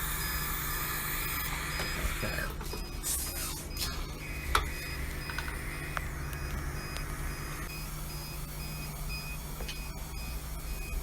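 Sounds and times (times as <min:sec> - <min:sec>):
fans and equipment humming: 0:00.0 - 0:11.0.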